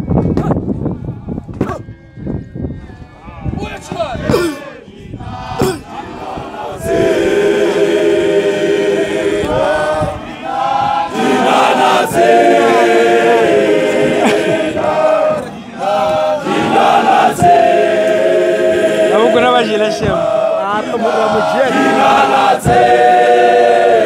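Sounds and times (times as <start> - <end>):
men singing in harmony: 4.3 - 24.0.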